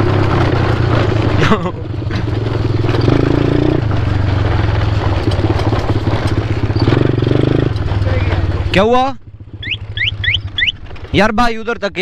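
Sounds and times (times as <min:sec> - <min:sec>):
quad bike engine at full throttle: 0:00.0 - 0:12.0.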